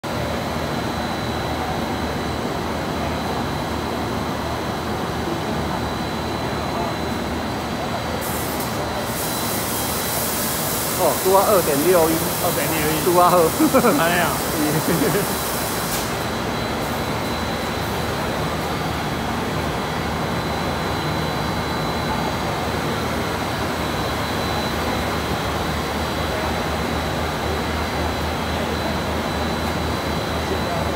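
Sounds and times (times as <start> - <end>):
high machine whine: 0.0 - 30.9.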